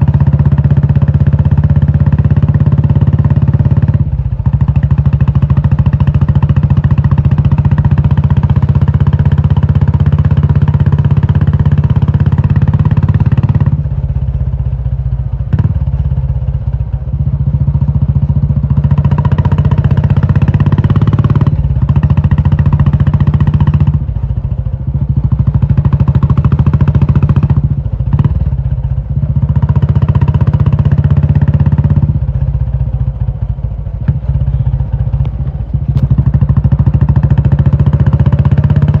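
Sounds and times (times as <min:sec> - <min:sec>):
motorcycle engine exhaust beat: 0:00.0 - 0:39.0.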